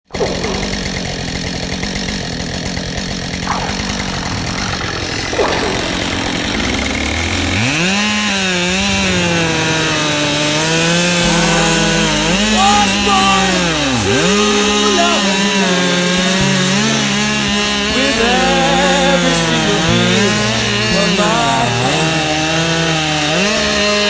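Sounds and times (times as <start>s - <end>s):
chainsaw cutting log: 0.1s - 24.0s.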